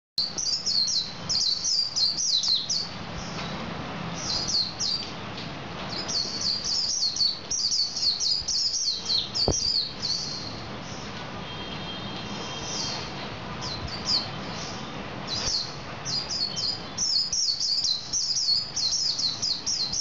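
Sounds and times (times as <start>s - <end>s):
bird singing twittering notes: 0.2s - 3.5s, 4.2s - 5.1s, 5.9s - 11.1s, 12.6s - 20.0s.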